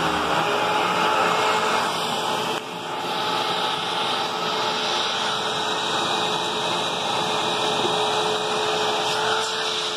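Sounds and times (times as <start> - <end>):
vacuum cleaner running: 0.0 - 9.9.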